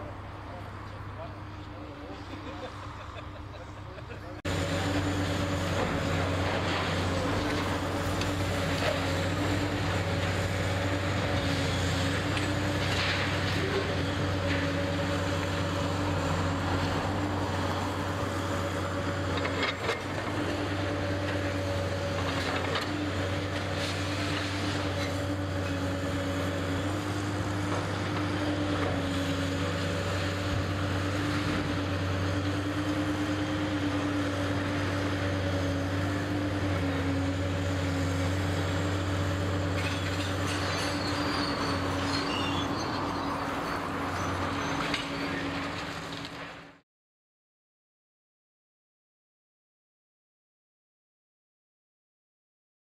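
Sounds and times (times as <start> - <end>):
large engine droning: 0.0 - 46.5.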